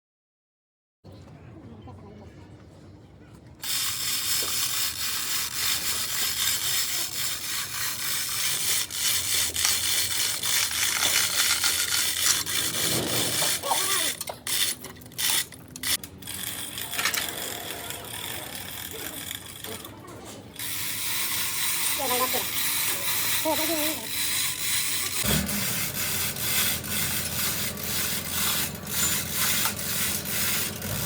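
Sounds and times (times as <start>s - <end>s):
hand tools scraping and clicking: 3.6s - 17.7s, 18.3s - 31.0s.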